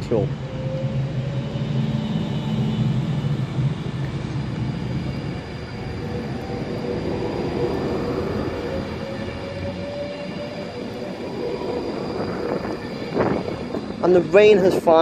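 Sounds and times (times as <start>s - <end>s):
electric train hum: 0.0s - 15.0s
train wheels rolling on rails: 0.0s - 15.0s.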